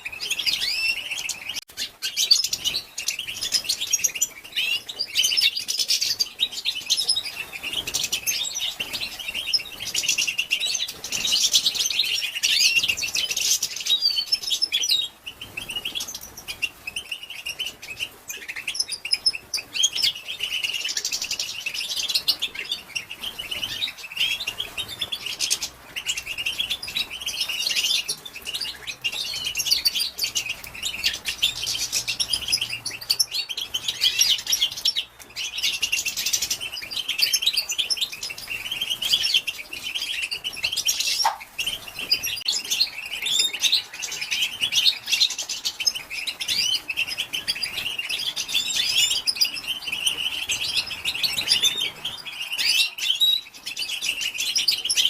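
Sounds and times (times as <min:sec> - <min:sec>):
goldfinch twittering: 0:00.0 - 0:55.0.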